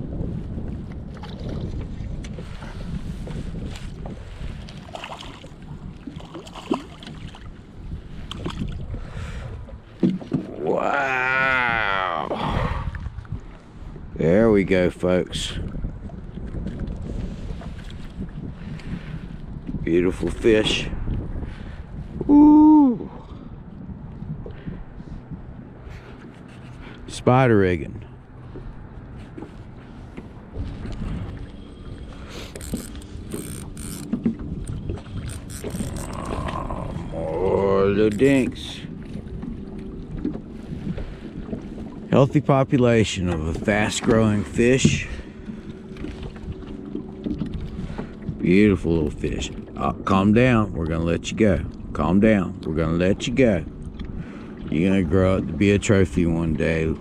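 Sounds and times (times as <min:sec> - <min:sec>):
choppy water: 0:00.0 - 0:57.0
fishing boat engine rumble: 0:00.0 - 0:57.0
wind: 0:00.0 - 0:57.0.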